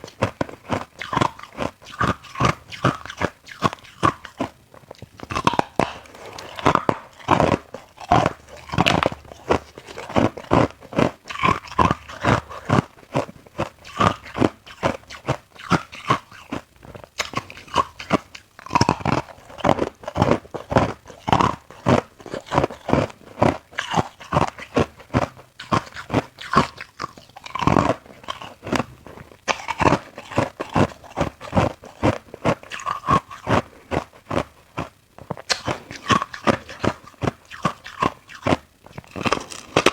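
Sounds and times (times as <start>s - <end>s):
person crunching ice: 0.0s - 4.6s, 5.2s - 16.6s, 17.2s - 39.9s.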